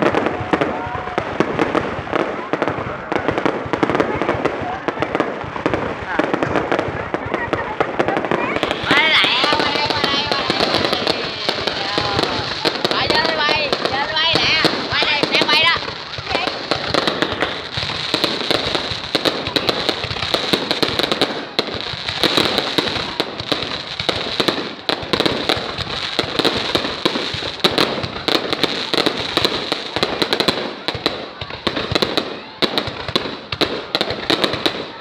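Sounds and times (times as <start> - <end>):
fireworks popping and banging: 0.0 - 35.0.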